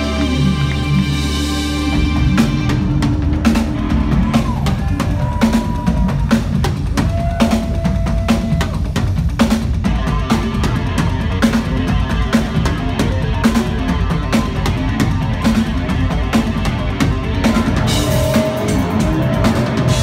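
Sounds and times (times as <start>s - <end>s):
bass and keyboard drone: 0.0s - 6.3s, 9.9s - 20.0s
fast double bass drumming: 0.0s - 20.0s
metal band playing loud: 0.0s - 20.0s.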